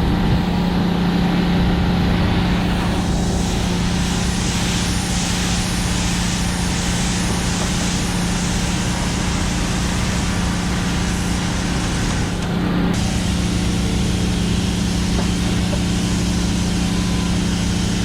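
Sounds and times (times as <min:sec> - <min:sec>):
motor running with hiss: 0:02.5 - 0:18.0.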